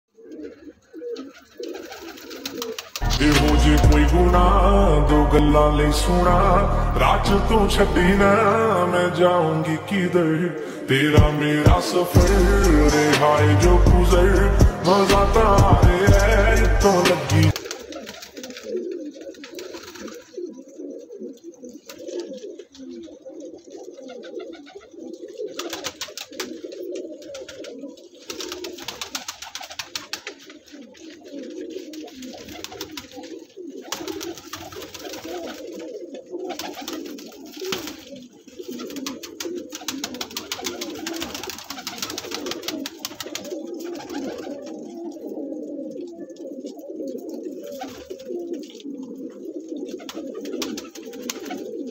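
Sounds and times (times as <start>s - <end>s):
pigeons cooing: 0.1s - 51.9s.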